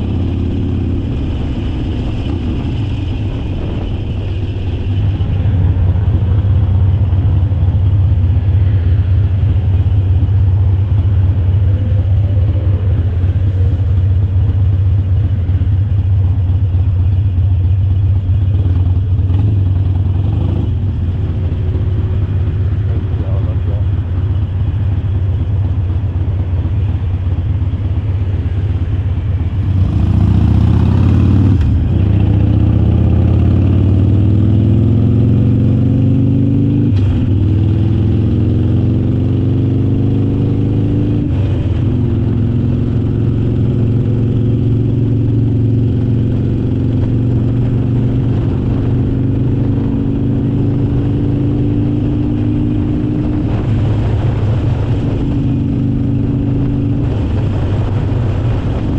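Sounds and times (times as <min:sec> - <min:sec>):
motorcycle engine accelerating: 0:00.0 - 0:58.9.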